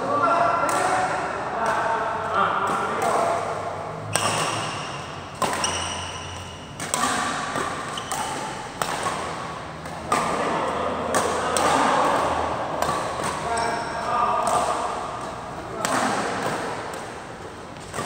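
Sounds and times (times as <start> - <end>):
rackets hitting shuttlecock: 0.6 - 18.0.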